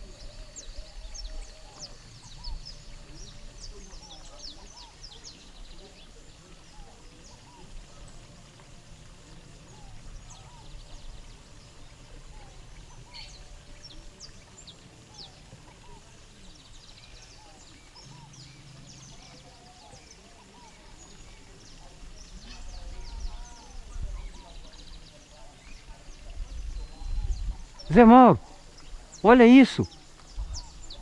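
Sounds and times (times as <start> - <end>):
birds chirping: 0.0 - 31.0
outdoor background noise: 0.0 - 31.0.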